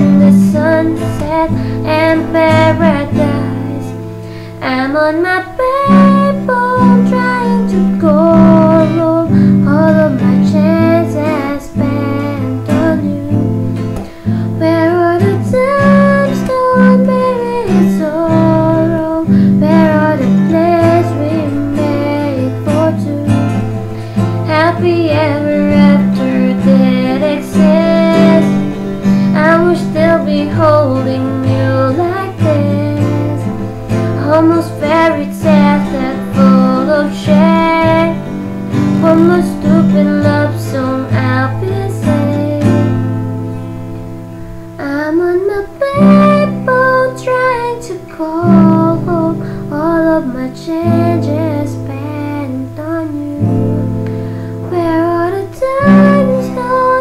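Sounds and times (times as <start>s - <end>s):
woman singing: 0.0s - 43.6s, 44.7s - 57.0s
guitar accompaniment: 0.0s - 57.0s.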